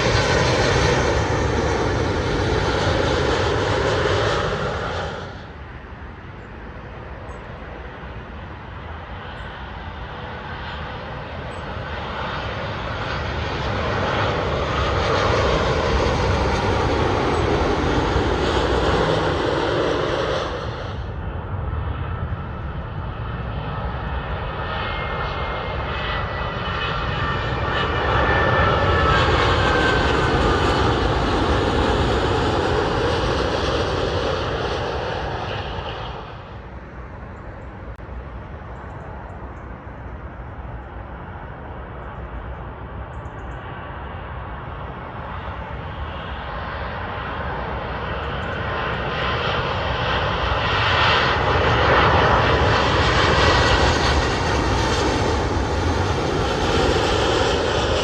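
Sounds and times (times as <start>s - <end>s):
jet airliner passing overhead: 0.0s - 58.0s.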